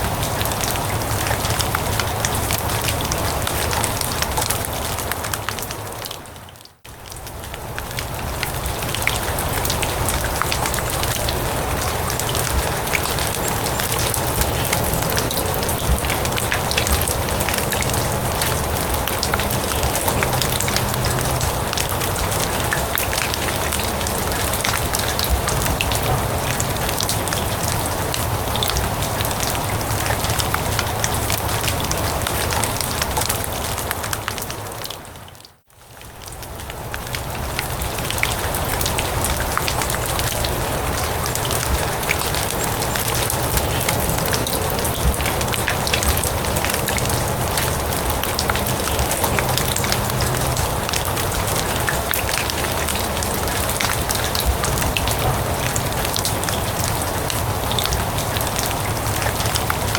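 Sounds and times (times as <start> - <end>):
rain falling on grass: 0.0 - 59.9.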